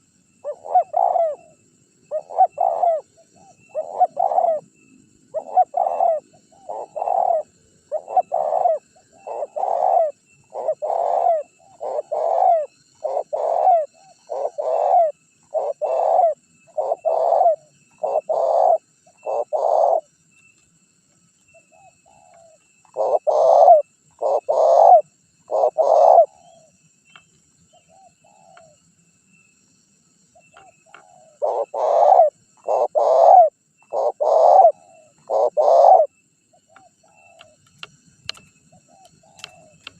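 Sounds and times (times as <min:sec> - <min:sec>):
dove cooing: 0:00.0 - 0:20.1, 0:21.6 - 0:26.8, 0:27.7 - 0:28.8, 0:30.4 - 0:37.6, 0:38.3 - 0:39.9.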